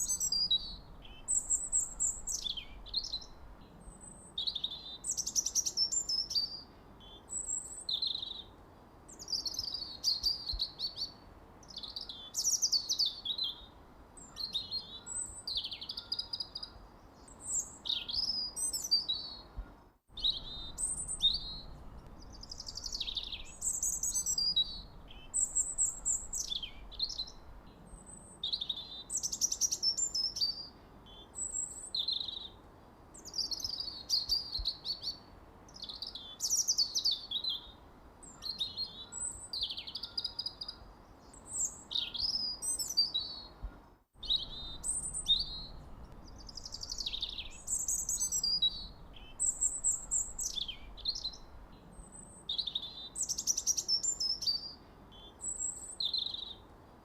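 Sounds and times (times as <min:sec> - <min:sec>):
faint steady hiss: 0:00.0 - 0:57.0
songbird chirping: 0:00.0 - 0:57.0.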